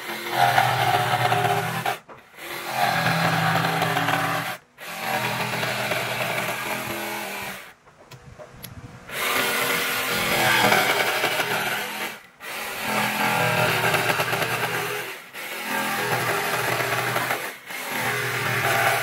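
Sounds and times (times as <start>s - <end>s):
jigsaw cutting wood: 0.0s - 7.8s, 9.1s - 19.0s.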